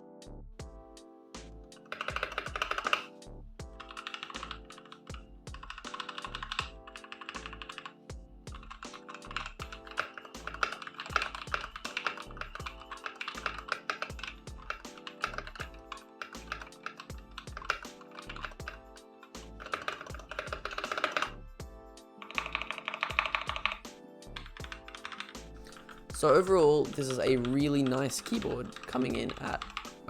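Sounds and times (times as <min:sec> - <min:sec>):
background music: 0:00.0 - 0:30.0
mechanical keyboard typing: 0:01.8 - 0:21.4, 0:22.1 - 0:30.0.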